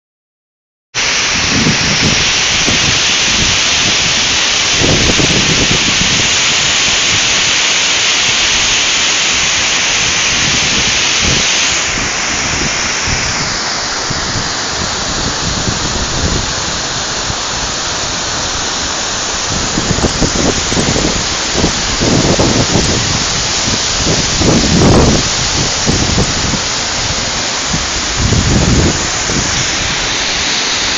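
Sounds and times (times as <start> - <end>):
waterfall rushing: 1.0 - 30.9.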